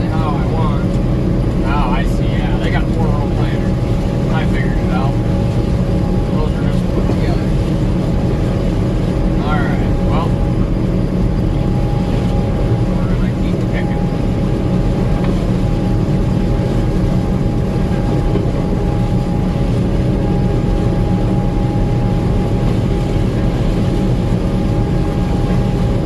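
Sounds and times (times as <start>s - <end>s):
combine engine drone: 0.0s - 26.0s
thin steady whine: 0.0s - 26.0s.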